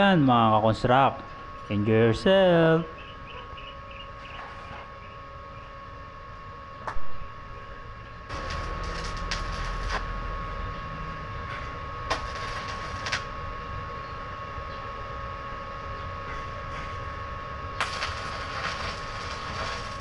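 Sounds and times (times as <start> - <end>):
arc welding crackling and hissing: 0.0 - 5.7, 6.8 - 20.0
steady hum: 0.0 - 20.0.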